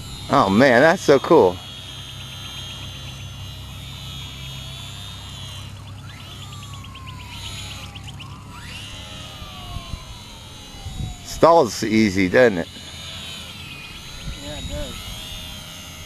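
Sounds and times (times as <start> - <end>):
model airplane motor whine: 0.0 - 16.0.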